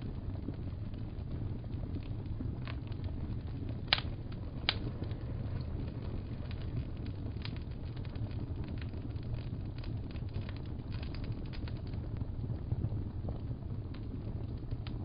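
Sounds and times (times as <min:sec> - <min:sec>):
low rumble: 0:00.0 - 0:15.0
sharp fire pops: 0:00.0 - 0:15.0
wood fire crackling: 0:00.0 - 0:15.0.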